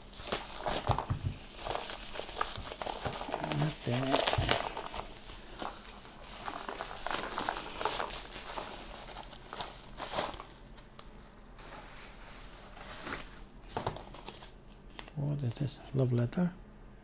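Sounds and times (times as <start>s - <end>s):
packaging crinkling and rustling: 0.0s - 16.1s.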